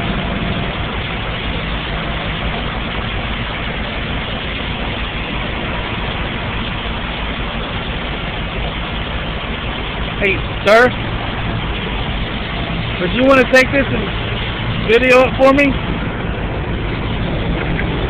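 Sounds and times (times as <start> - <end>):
constant wash of noise: 0.0 - 18.0
truck engine idling: 0.0 - 18.0.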